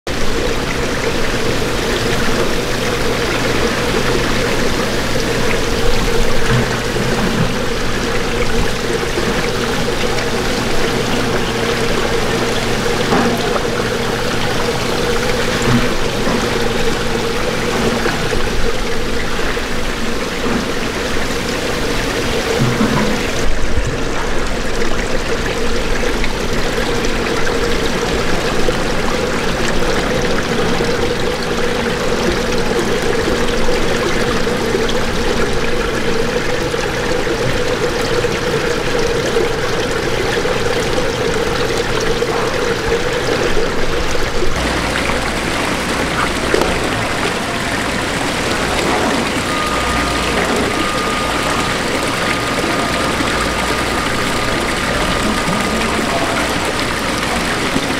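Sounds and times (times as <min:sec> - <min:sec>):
water pouring into tank: 0:00.1 - 0:57.9.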